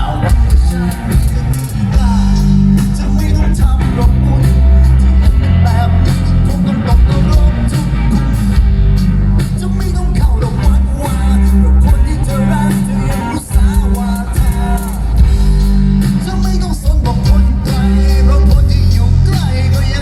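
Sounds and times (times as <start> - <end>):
person singing: 0.0 - 8.6, 9.4 - 20.0
live rock-pop band music: 0.0 - 20.0.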